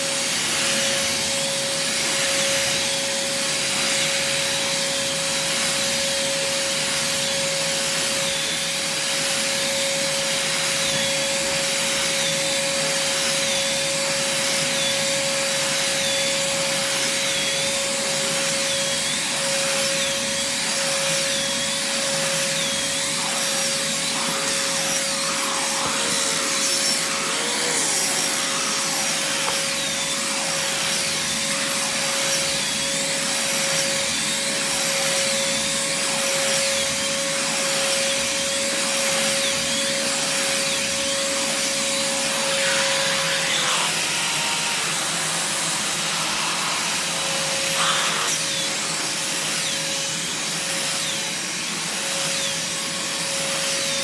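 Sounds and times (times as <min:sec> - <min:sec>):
shop vac running: 0:00.0 - 0:54.0
vacuum nozzle on carpet: 0:00.0 - 0:54.0.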